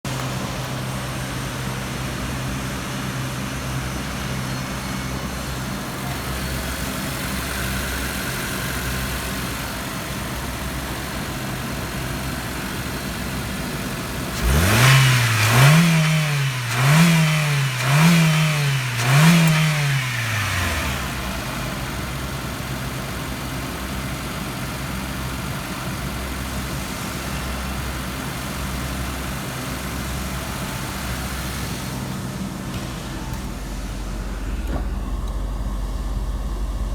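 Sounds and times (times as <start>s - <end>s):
car engine idling and revving: 0.1s - 36.9s.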